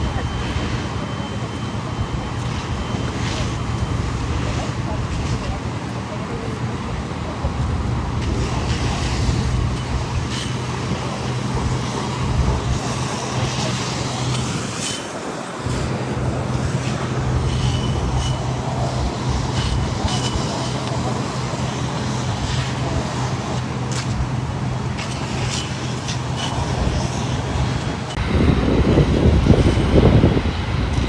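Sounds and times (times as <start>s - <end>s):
road traffic engine hum: 0.0s - 31.0s
wind buffeting microphone: 0.0s - 31.0s.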